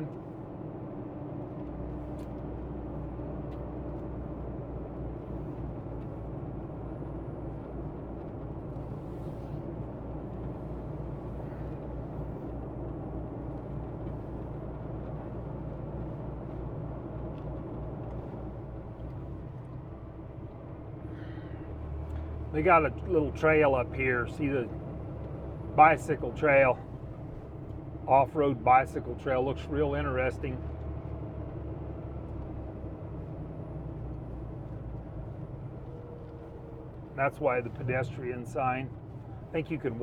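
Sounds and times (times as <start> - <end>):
road noise: 0.0 - 40.0
truck diesel engine droning: 0.0 - 40.0.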